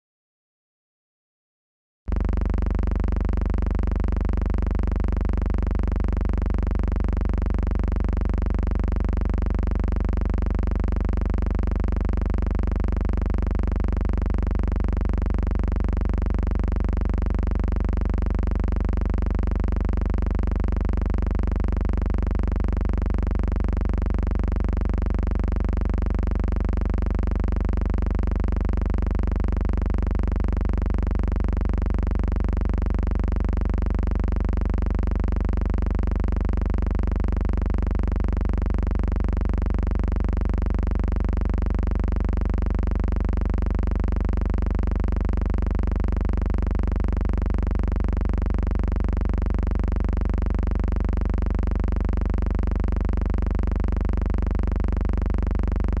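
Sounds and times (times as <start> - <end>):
steady low hum: 2.1 - 56.0.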